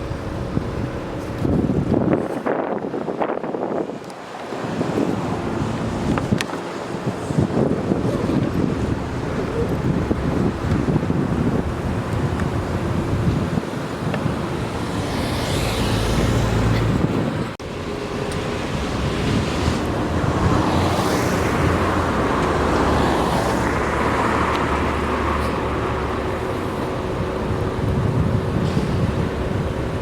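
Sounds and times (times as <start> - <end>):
traffic rumble: 0.0 - 30.0
vehicles passing: 3.7 - 30.0.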